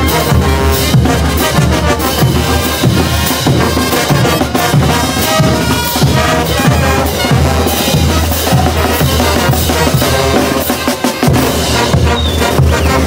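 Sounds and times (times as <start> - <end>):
marching brass band playing: 0.0 - 13.0.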